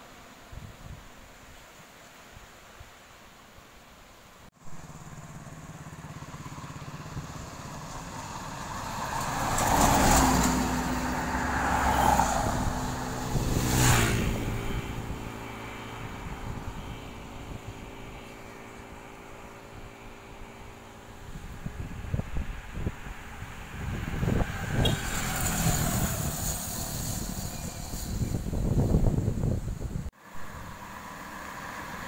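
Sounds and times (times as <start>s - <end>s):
bus engine passing: 4.6s - 32.0s.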